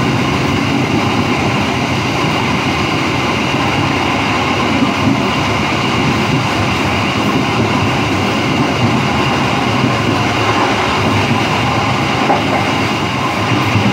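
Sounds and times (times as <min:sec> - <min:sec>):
train wheels rumbling on track: 0:00.0 - 0:13.9.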